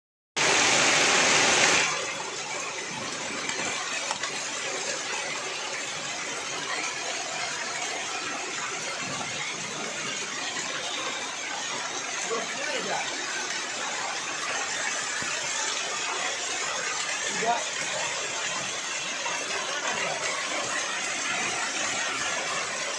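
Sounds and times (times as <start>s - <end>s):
rain hiss: 0.4s - 22.9s
hailstones ticking: 1.5s - 22.9s.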